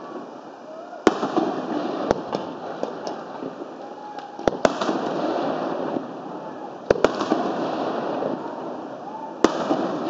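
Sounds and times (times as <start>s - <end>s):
background noise: 0.0s - 10.0s
fireworks popping and banging: 1.0s - 10.0s.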